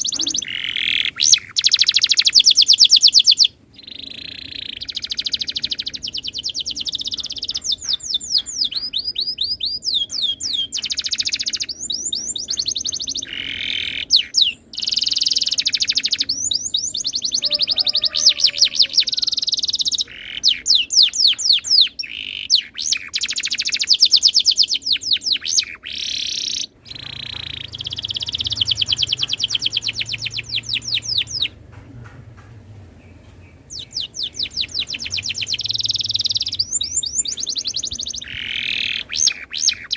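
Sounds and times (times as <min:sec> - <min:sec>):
canary singing trills: 0:00.0 - 0:31.6, 0:33.0 - 0:39.9.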